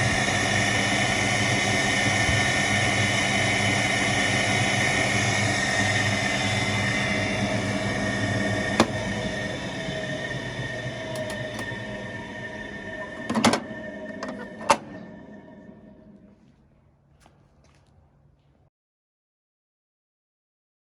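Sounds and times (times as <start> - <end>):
washing machine humming: 0.0 - 17.7.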